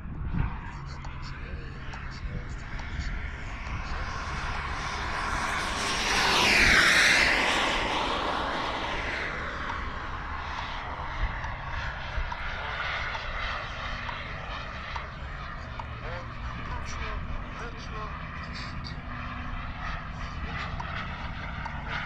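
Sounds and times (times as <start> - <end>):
model jet turbine whine: 0.0 - 22.0.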